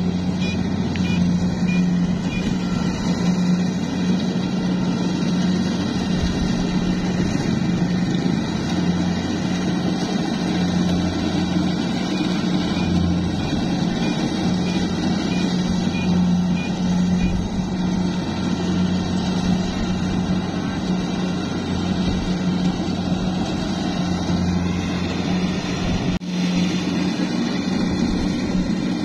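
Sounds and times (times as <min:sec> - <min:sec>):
diesel engine running under load: 0:00.0 - 0:29.0
harvesting machinery whirring: 0:00.0 - 0:29.0.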